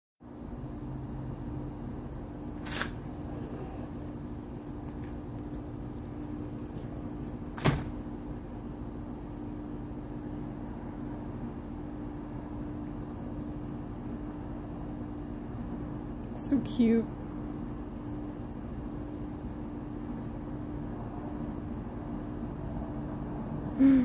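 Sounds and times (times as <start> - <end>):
faint high whine: 0.2 - 24.0.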